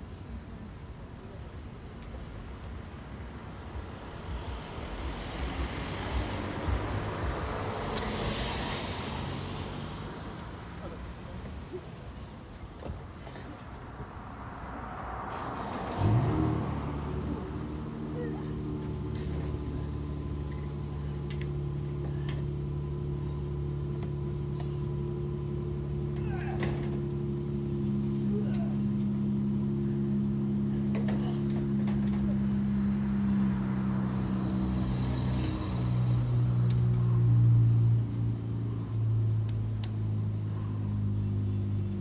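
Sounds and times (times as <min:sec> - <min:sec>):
low engine hum: 0:00.0 - 0:42.0
motor vehicle passing: 0:05.0 - 0:42.0.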